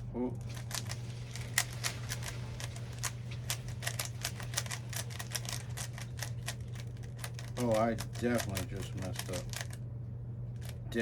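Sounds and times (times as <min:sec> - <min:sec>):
puzzle cube clicking: 0:00.5 - 0:09.8.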